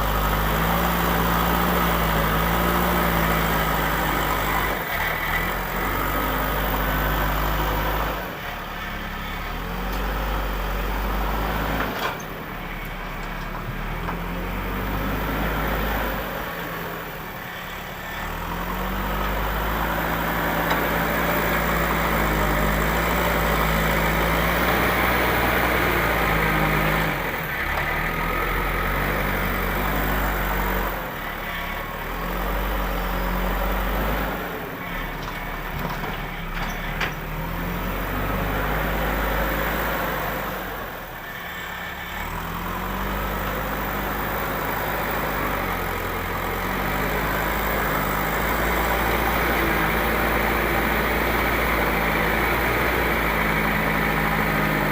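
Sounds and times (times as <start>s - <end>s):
heavy diesel engine under load: 0.0s - 54.9s.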